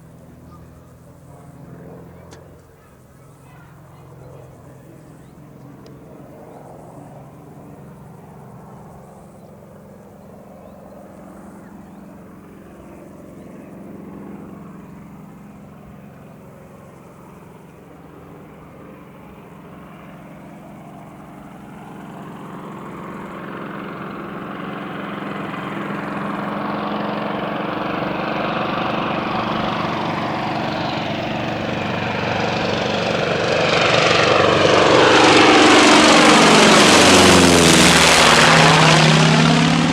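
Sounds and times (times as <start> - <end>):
radial aircraft engine and propeller: 0.0 - 39.9.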